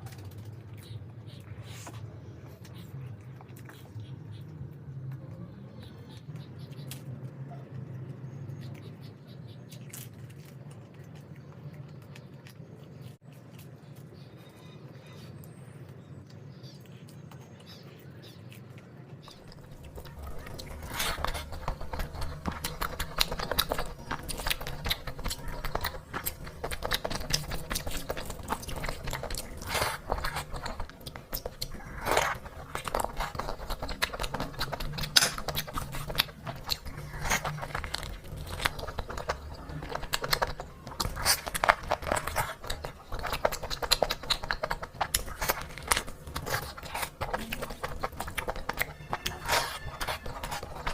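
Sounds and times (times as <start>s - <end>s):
chewing with wet smacks: 0.0s - 50.9s.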